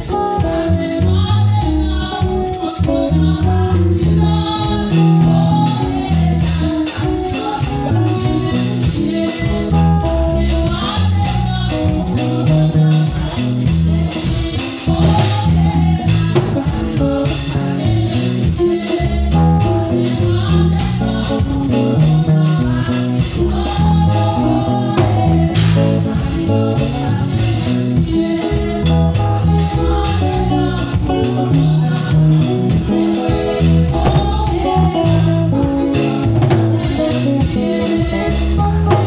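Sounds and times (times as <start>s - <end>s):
bass guitar low notes: 0.0s - 39.0s
live band playing: 0.0s - 39.0s.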